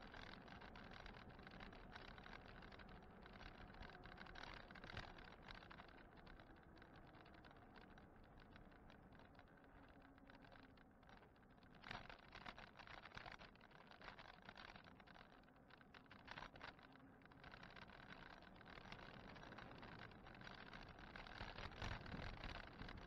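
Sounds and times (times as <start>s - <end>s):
bike and camera rattling: 0.0s - 23.0s.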